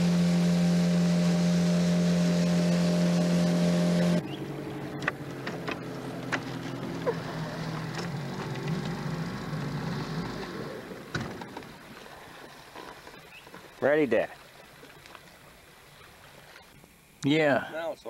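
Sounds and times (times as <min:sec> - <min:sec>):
outboard motor running: 0:00.0 - 0:16.9.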